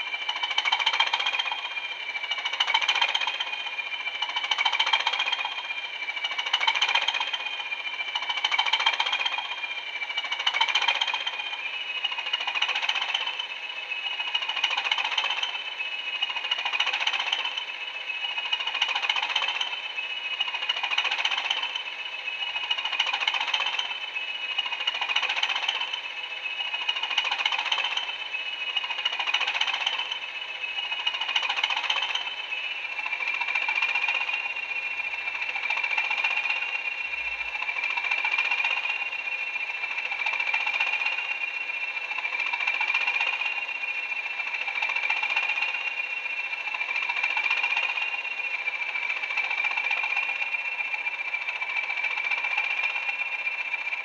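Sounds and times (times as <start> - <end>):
diesel engine idling through small speakers: 0.0 - 54.0.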